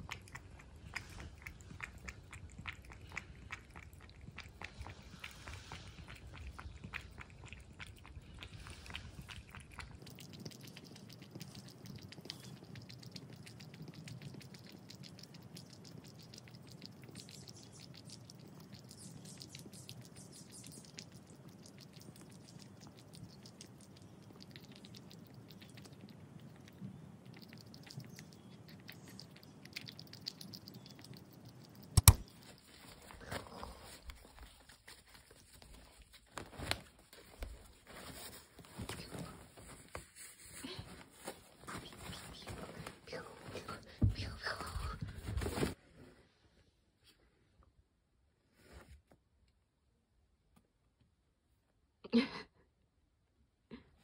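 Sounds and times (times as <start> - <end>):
cat lapping and chewing food: 0.0 - 45.8.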